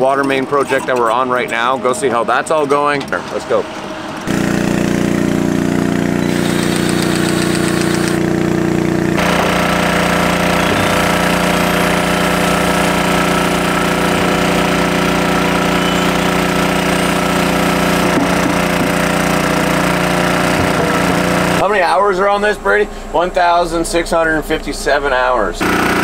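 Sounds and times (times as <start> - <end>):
diesel engine idling: 3.6 - 26.0.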